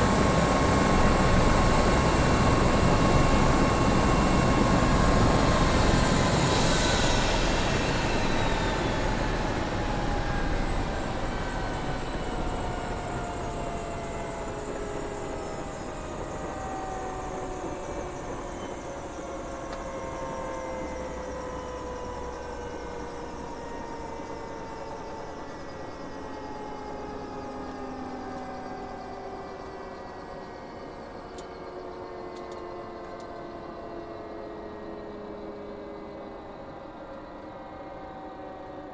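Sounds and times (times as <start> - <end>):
helicopter turbine winding down: 0.0 - 38.8.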